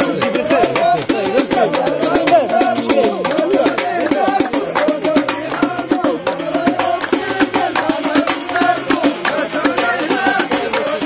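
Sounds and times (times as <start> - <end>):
metal percussion fast rhythm: 0.0 - 11.0.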